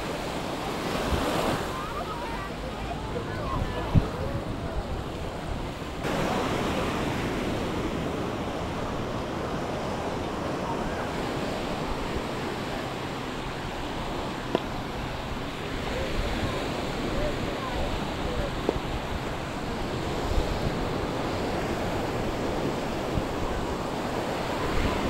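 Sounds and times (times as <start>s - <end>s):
waves washing on beach: 0.0s - 25.0s
wind buffeting microphone: 0.0s - 25.0s.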